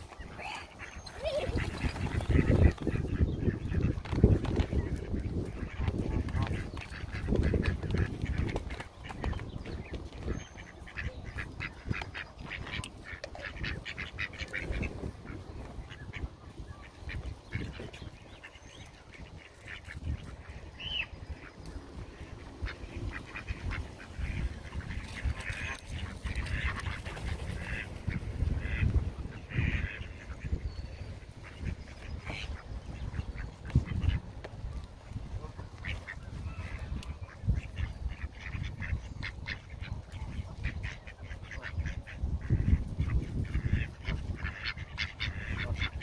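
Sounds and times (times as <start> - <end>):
ducks and geese calling: 0.0 - 46.0.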